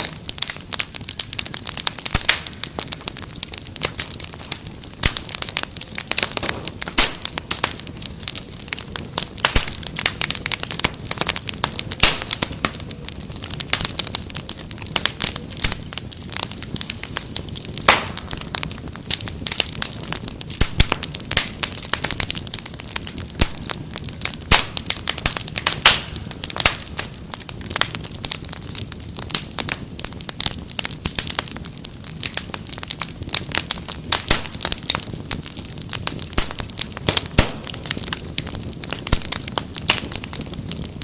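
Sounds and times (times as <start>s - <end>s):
low rush of burning: 0.0s - 41.0s
wood fire crackling and popping: 0.0s - 41.0s.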